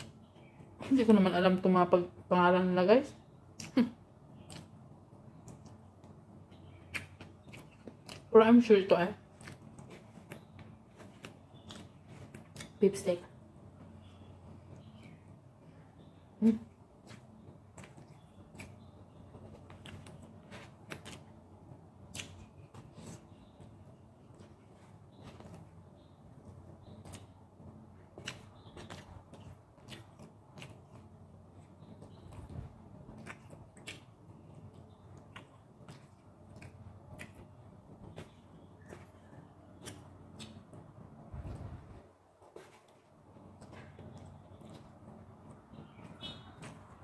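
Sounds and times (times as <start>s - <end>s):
low steady hum: 0.0s - 47.0s
person chewing food: 3.5s - 8.3s, 9.2s - 12.8s, 14.0s - 47.0s.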